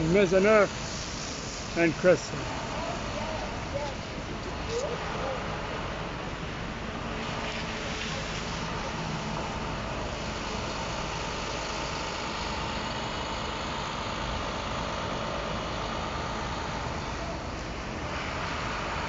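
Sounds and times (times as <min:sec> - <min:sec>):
city street traffic noise: 0:00.0 - 0:19.0
vehicle engines idling: 0:00.0 - 0:19.0.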